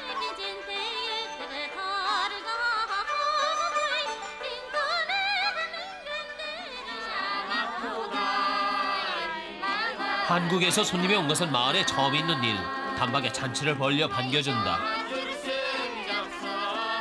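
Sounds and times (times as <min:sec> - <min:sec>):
high-pitched singing with vibrato: 0:00.0 - 0:17.0.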